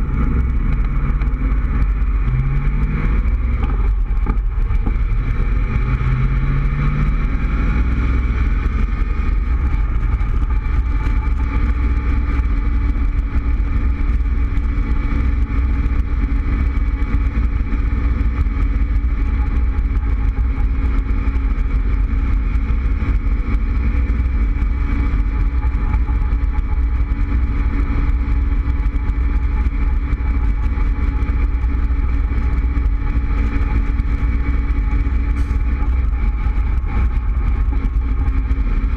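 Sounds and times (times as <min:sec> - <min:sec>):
wind buffeting microphone: 0:07.3 - 0:38.9.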